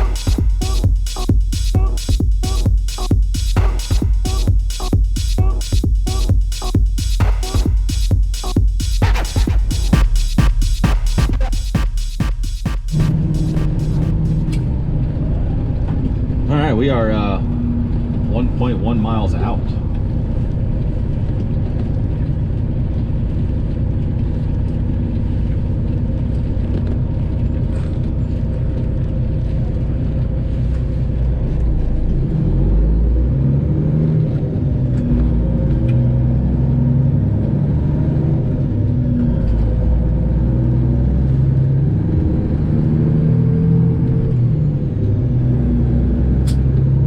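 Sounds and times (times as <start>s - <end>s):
truck engine low rumble: 0.0s - 47.0s.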